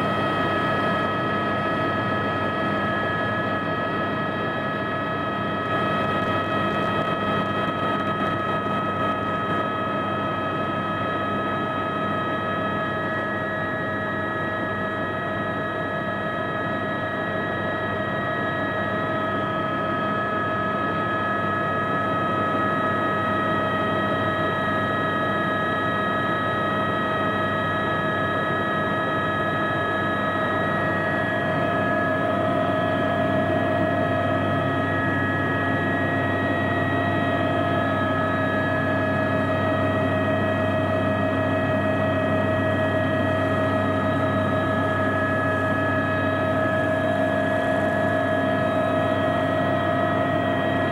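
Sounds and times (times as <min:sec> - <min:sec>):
helicopter turbine whine: 0:00.0 - 0:50.9.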